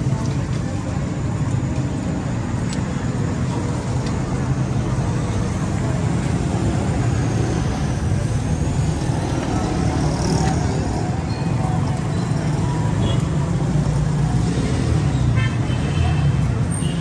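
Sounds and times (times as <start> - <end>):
motorcycle rickshaw engine: 0.0 - 17.0
street traffic noise: 0.0 - 17.0.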